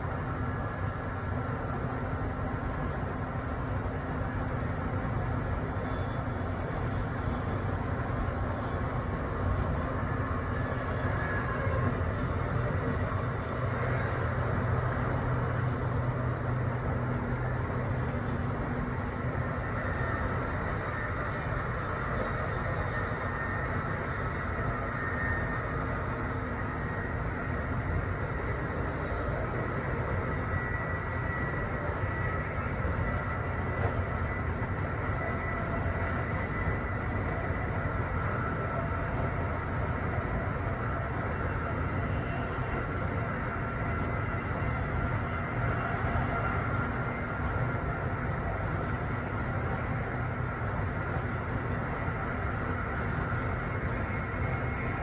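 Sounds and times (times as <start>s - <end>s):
wheels rolling on rail: 0.0s - 55.0s.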